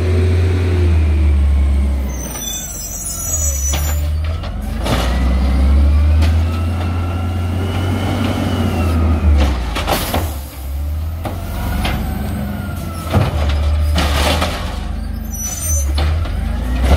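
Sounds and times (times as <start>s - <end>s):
garbage truck engine running: 0.0s - 16.9s.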